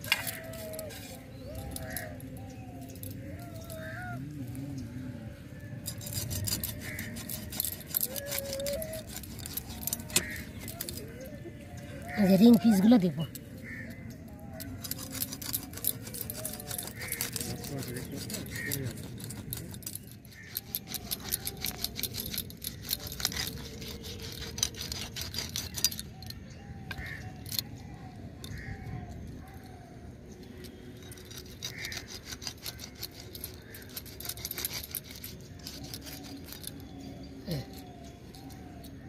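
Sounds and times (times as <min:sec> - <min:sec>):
bangles jingling: 0:00.0 - 0:04.2, 0:05.8 - 0:13.6, 0:14.6 - 0:27.6, 0:30.4 - 0:39.0.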